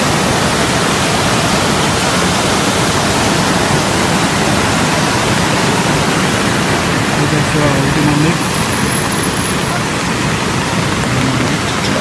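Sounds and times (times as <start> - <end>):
river rushing through rapids: 0.0 - 12.0.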